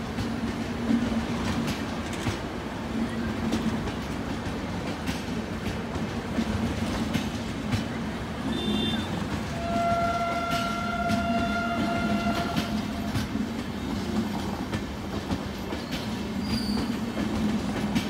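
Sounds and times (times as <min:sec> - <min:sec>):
wheels clicking over rail joints: 0:00.0 - 0:18.0.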